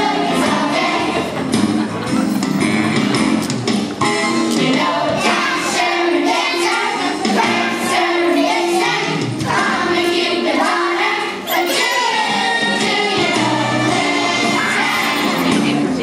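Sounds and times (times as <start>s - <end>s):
children singing: 0.0s - 1.5s, 4.6s - 16.0s
backing music: 0.0s - 16.0s.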